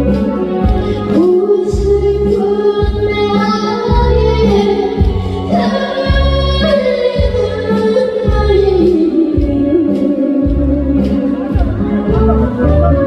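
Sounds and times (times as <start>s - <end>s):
backing track with steady beat: 0.0s - 13.0s
girl singing: 0.8s - 11.5s.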